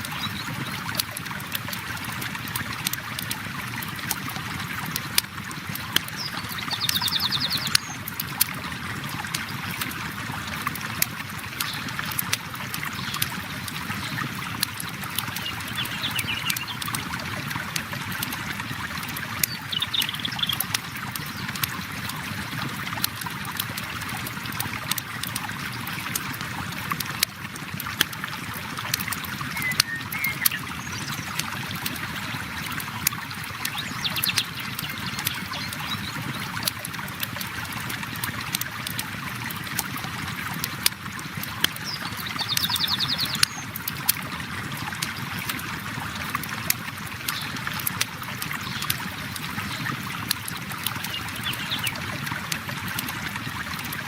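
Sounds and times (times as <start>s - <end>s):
flowing river: 0.0s - 54.0s.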